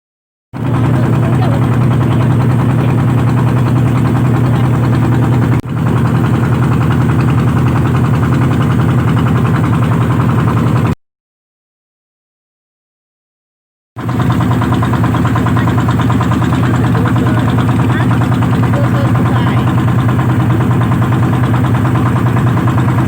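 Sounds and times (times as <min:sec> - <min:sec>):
tractor engine chugging: 0:00.6 - 0:11.0, 0:14.0 - 0:23.0.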